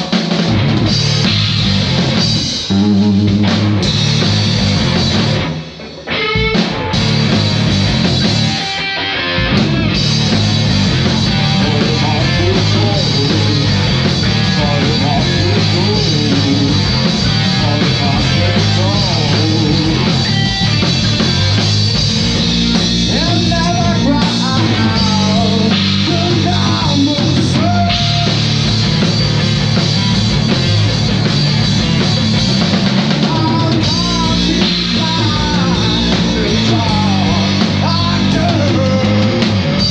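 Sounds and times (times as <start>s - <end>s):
rock music: 0.0s - 39.9s.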